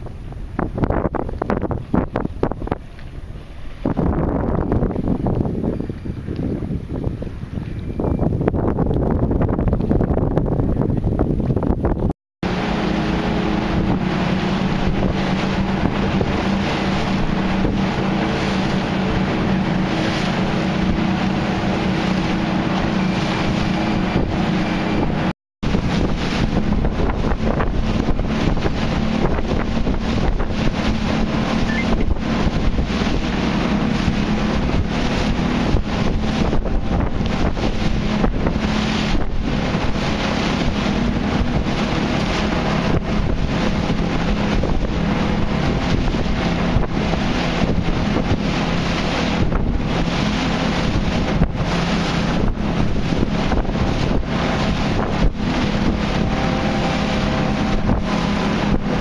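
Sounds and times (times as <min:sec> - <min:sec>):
motorboat engine humming: 0:00.0 - 0:59.0
rushing water: 0:00.0 - 0:59.0
wind buffeting microphone: 0:00.0 - 0:59.0.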